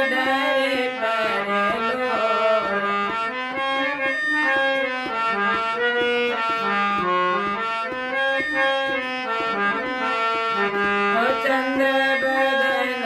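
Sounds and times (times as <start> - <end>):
harmonium melody: 0.0 - 13.0.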